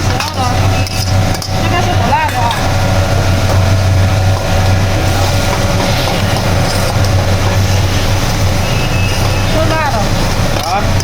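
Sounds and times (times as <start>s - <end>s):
machine hum with rushing noise: 0.0s - 11.0s.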